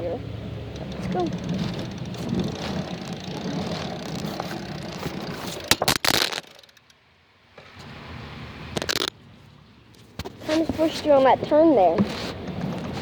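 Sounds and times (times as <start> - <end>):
bike rattling and rumbling: 0.0 - 9.2, 10.0 - 13.0.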